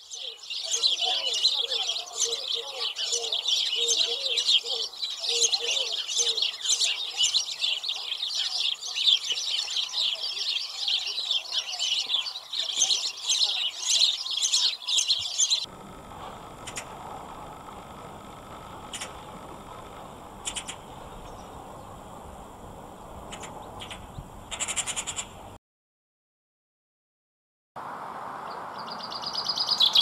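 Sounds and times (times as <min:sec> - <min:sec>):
sparrows chirping: 0:00.0 - 0:25.6, 0:28.5 - 0:30.0.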